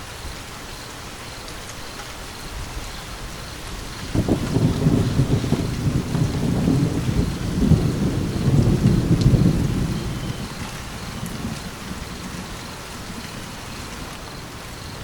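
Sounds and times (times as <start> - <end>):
steady rain falling: 0.0 - 15.0
low rumble of thunder: 2.6 - 15.0.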